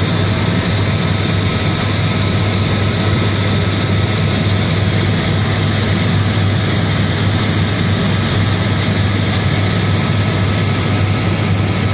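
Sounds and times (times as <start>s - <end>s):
helicopter engine and rotor drone: 0.0s - 11.9s.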